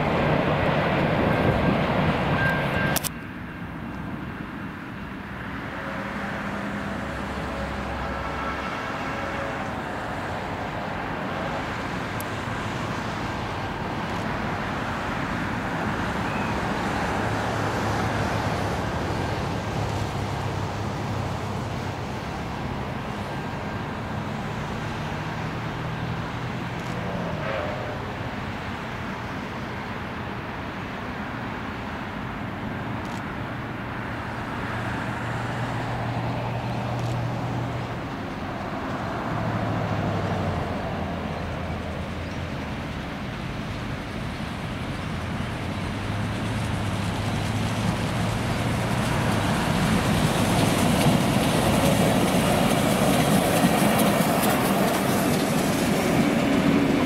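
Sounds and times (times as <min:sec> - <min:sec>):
steam train passing: 0:00.0 - 0:57.0.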